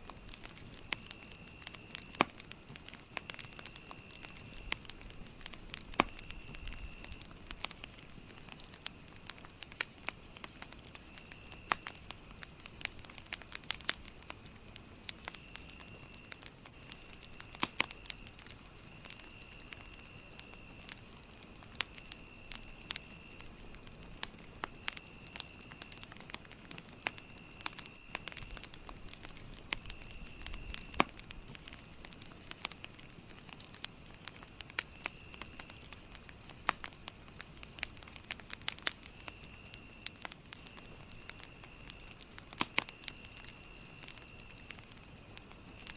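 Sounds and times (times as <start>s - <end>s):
campfire crackling: 0.0s - 45.9s.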